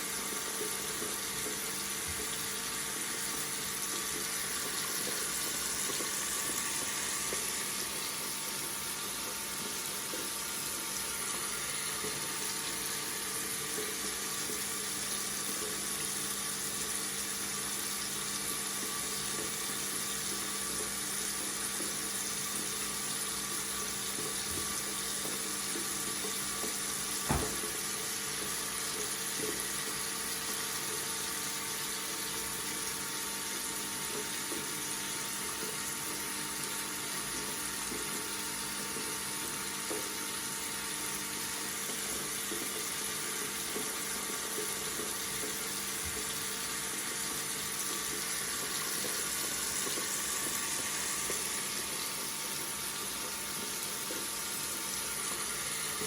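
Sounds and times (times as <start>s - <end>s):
tap water running: 0.0s - 56.0s.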